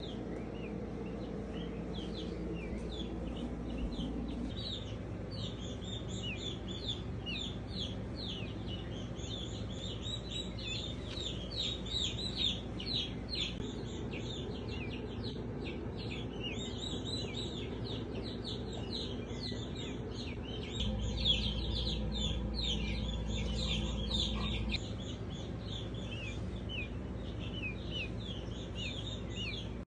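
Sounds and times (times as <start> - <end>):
chicks peeping: 0.0 - 29.8
low steady hum: 0.0 - 29.8.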